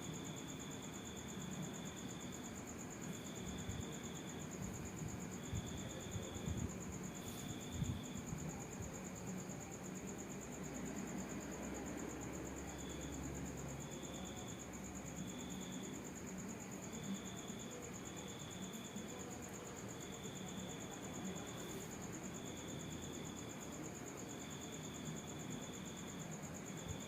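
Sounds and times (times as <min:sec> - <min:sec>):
high pulsing insect trill: 0:00.0 - 0:27.0
lower chirping cricket trill: 0:00.0 - 0:27.0.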